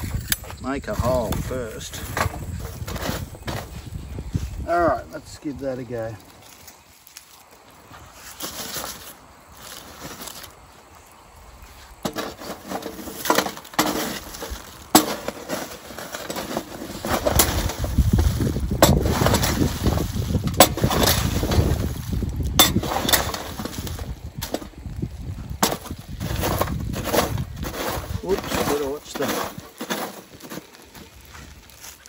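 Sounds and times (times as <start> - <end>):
charcoal crunching and clinking: 0.0 - 32.0.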